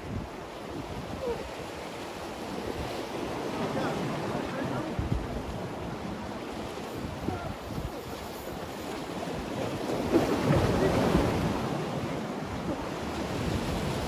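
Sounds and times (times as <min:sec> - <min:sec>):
waves splashing against concrete: 0:00.0 - 0:14.0
wind buffeting microphone: 0:00.0 - 0:14.0.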